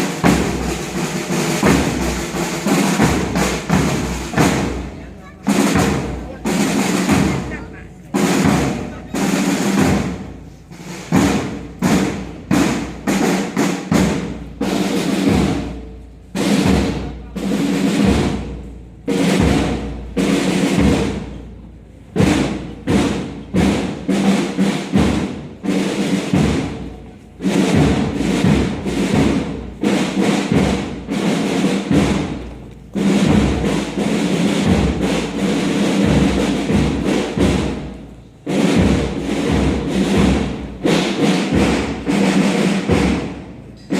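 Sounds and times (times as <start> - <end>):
drum hits: 0.0 - 21.5, 22.1 - 43.9.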